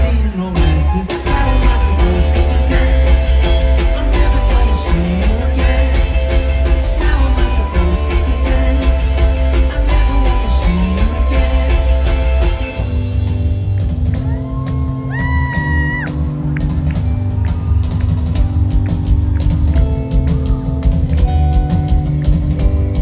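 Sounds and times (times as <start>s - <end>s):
bass guitar: 0.0s - 23.0s
electric guitars: 0.0s - 23.0s
steady drum beat: 0.0s - 23.0s.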